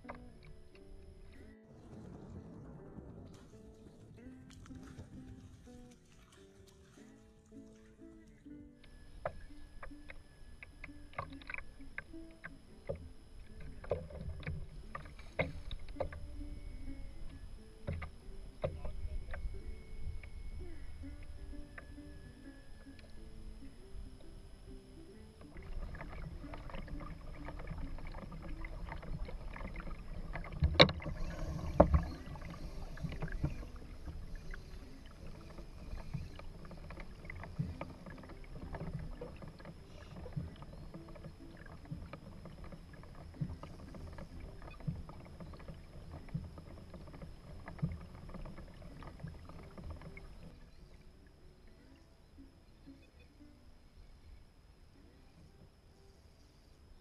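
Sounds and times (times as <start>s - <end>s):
knocks and clicks against boat: 0.0s - 1.4s, 4.5s - 54.4s
low rumble of water: 0.0s - 57.0s.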